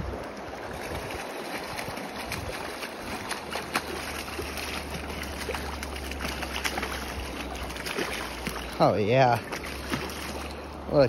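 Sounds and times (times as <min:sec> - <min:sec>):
water washing: 0:00.0 - 0:11.0
fish thrashing and splashing: 0:00.5 - 0:10.9.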